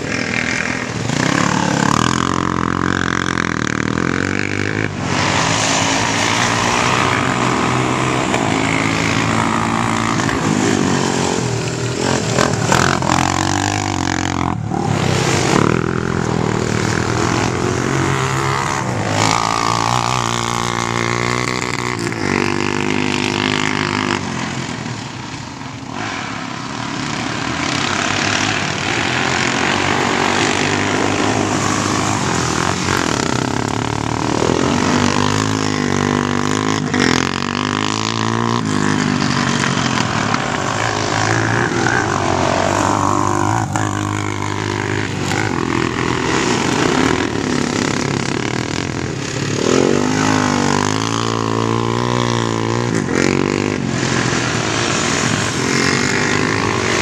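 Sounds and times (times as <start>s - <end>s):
quad bike engines revving: 0.0s - 57.0s.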